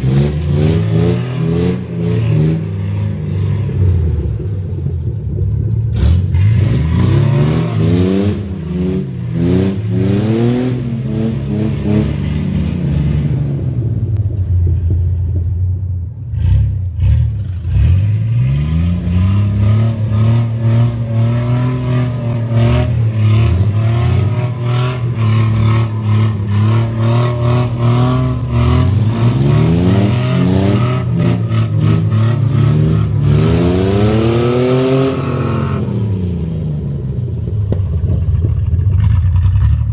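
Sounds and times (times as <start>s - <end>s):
truck engine revving: 0.0s - 15.4s, 16.3s - 37.7s.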